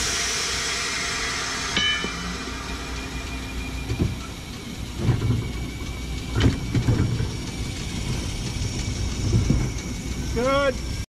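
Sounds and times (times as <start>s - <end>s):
steady low rumble: 0.0s - 11.0s
streetcar wheels rolling: 0.0s - 11.0s
metallic clanks of wheels: 0.2s - 11.0s.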